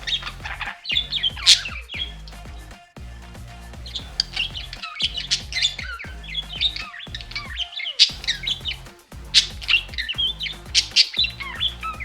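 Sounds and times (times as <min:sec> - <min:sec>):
budgerigars chirping: 0:00.0 - 0:02.6, 0:03.8 - 0:12.0
background music: 0:00.0 - 0:12.0.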